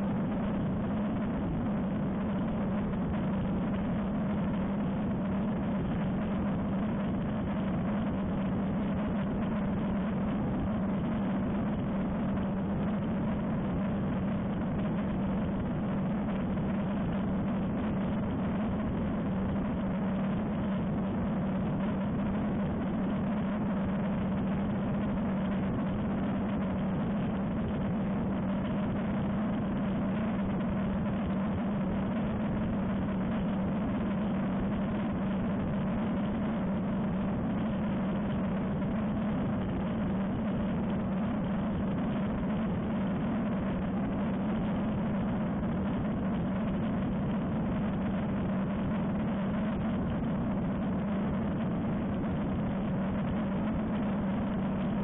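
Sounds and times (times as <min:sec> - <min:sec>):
airflow rushing over microphone: 0:00.0 - 0:55.0.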